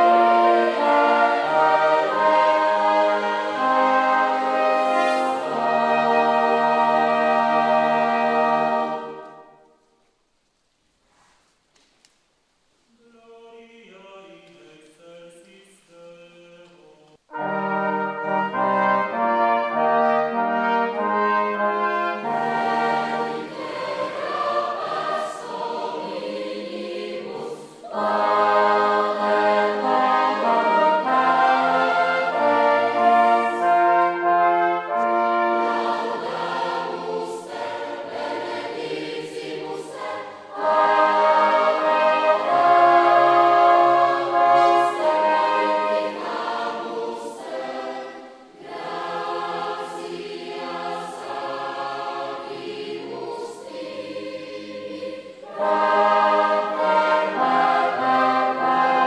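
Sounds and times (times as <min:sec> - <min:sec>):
large choir singing: 0:00.0 - 0:09.6, 0:13.4 - 0:59.0
brass chords: 0:00.0 - 0:09.8, 0:17.2 - 0:59.0.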